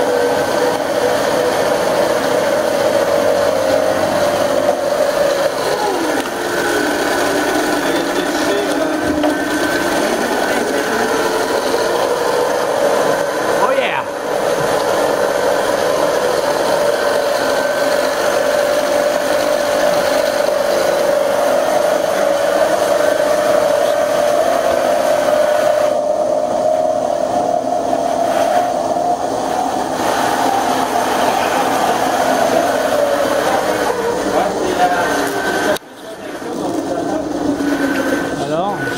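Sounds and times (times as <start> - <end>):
pedal generator whining: 0.0 - 38.9.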